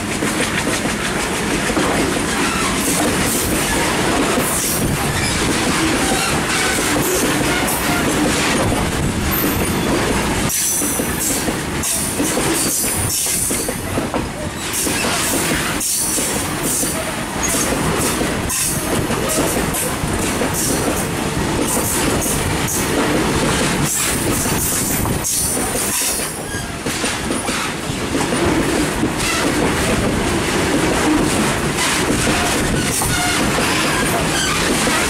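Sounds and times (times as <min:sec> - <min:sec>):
steel wheels clattering on rails: 0:00.0 - 0:35.0.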